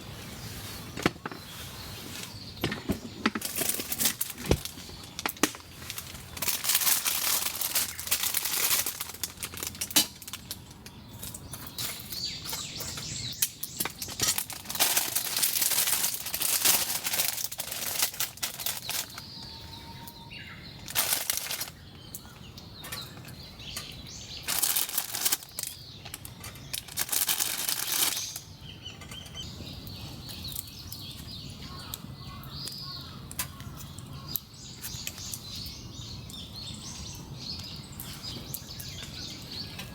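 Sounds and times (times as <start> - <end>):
faint birds chirping: 0.0 - 39.9.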